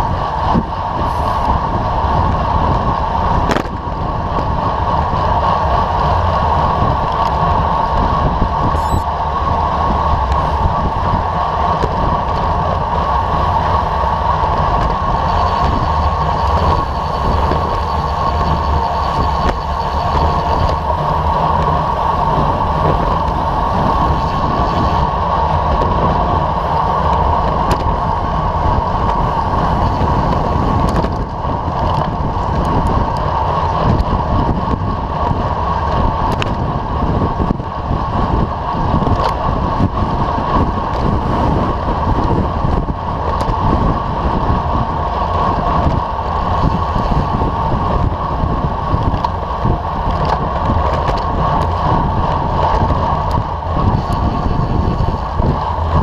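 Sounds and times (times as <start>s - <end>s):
bicycle tyres on asphalt: 0.0s - 56.0s
wind rushing over microphone: 0.0s - 56.0s.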